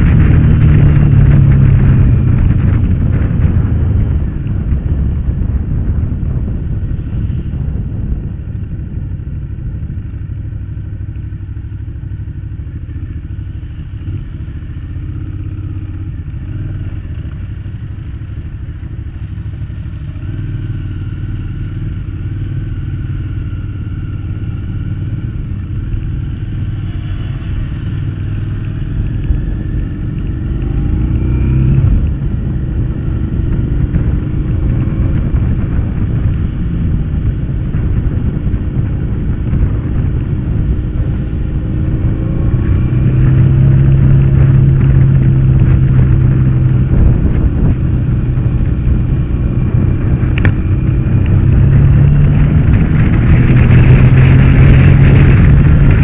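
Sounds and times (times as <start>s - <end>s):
motorcycle engine running: 0.0s - 56.0s
wind rumble on microphone: 0.0s - 56.0s.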